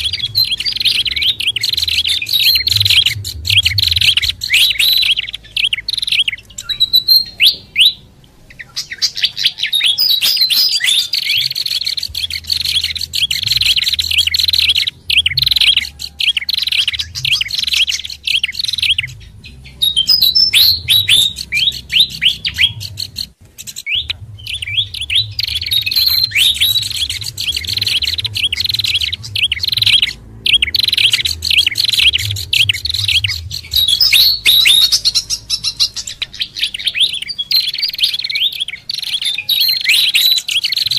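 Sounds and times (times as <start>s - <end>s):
faint low hum: 0.0s - 40.9s
small songbirds chattering: 0.0s - 40.9s.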